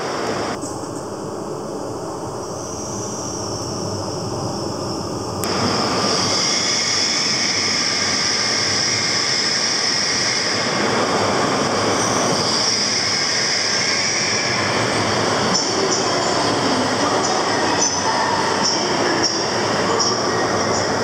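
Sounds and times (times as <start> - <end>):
train pulling into platform: 0.0 - 21.0.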